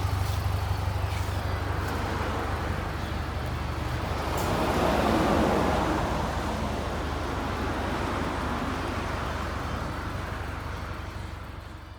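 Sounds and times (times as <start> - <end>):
road noise: 0.0 - 11.9.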